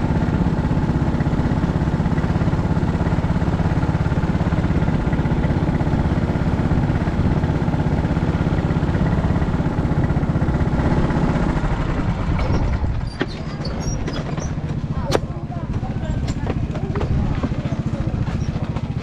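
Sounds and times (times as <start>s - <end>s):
small petrol engine idling: 0.0s - 19.0s.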